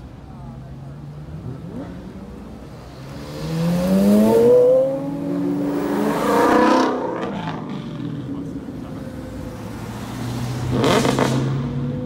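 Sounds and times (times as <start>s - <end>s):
cars accelerating past: 1.2s - 12.0s.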